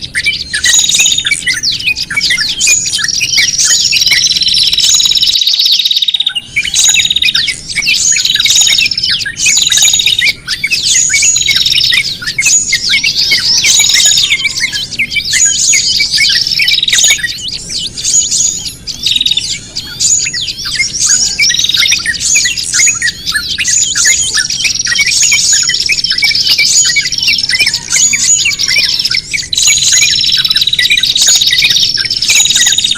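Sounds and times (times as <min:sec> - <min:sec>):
held bird whistles: 0:00.0 - 0:32.9
songbirds chirping and squawking: 0:00.0 - 0:32.9.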